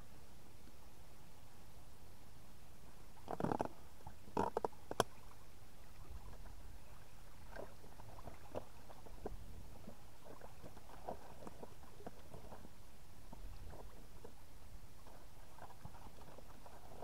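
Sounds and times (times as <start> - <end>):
river water lapping and gurgling: 0.6 - 17.0.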